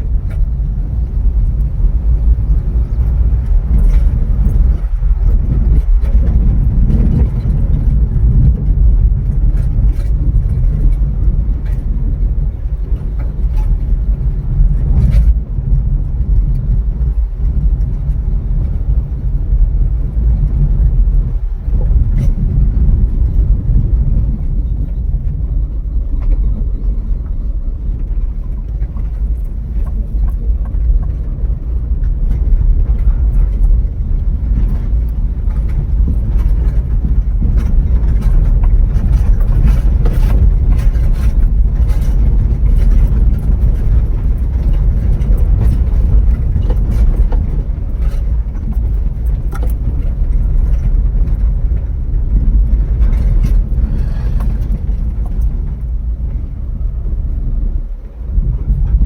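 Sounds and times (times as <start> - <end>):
car rumbling on the move: 0.0 - 59.0.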